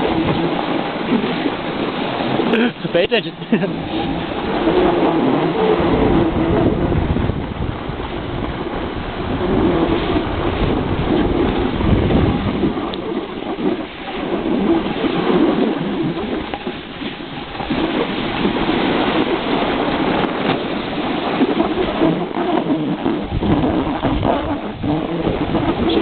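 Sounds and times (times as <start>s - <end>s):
snowboard scraping on snow: 0.0s - 26.0s
wind buffeting microphone: 0.0s - 26.0s.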